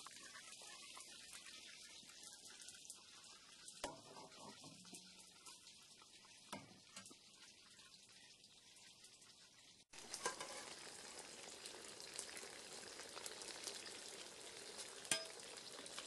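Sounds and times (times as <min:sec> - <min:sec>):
oil frying with crackling: 0:00.0 - 0:16.0.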